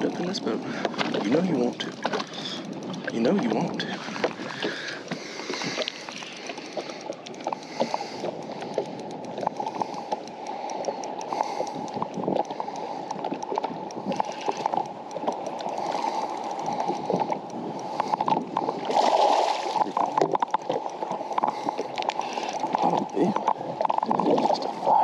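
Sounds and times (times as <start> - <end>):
small irregular clicks: 0.0 - 25.0
water lapping against hull: 0.0 - 25.0.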